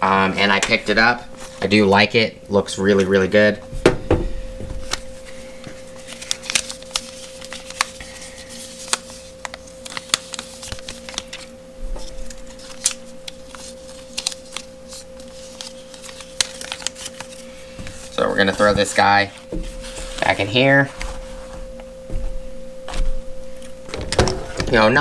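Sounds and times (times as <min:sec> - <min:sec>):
faint steady hum: 0:00.0 - 0:25.0
packaging rustling: 0:00.0 - 0:25.0.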